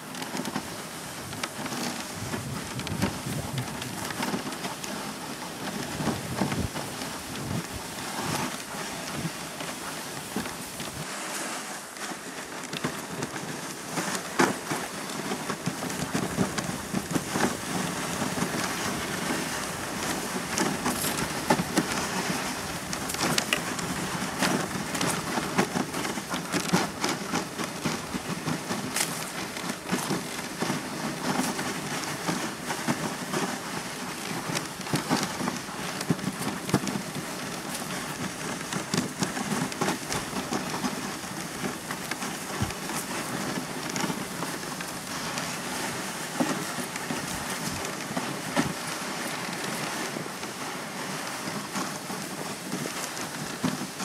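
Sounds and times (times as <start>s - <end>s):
sled runners sliding over snow: 0.0s - 54.0s.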